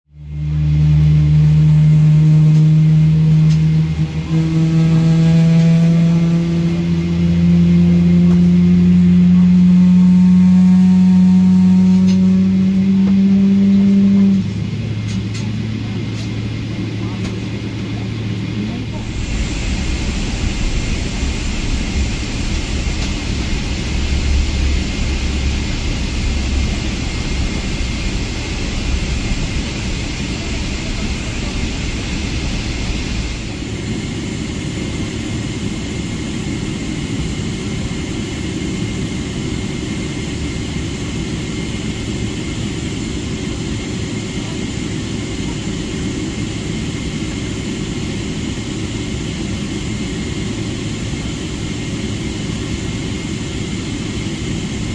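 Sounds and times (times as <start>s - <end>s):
jet engines rushing: 0.2s - 54.9s.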